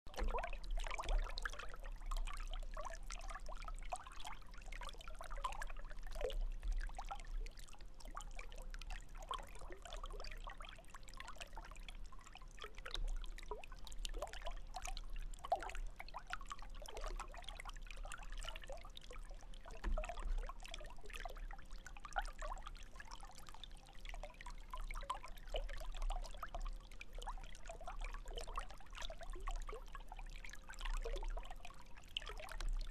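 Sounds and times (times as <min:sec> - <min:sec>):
faint steady hum: 0:00.1 - 0:32.9
water trickling and dripping: 0:00.1 - 0:32.9.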